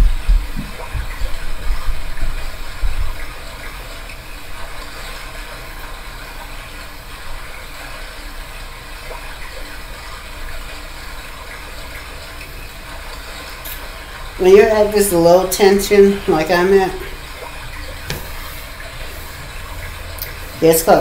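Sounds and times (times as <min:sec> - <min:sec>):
running water recording: 0:00.0 - 0:21.0.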